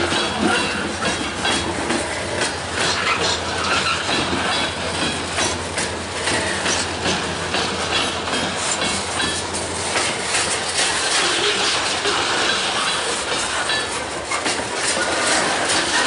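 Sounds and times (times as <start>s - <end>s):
freight train rolling past: 0.0s - 16.0s
wheels clacking over rail joints: 0.0s - 16.0s.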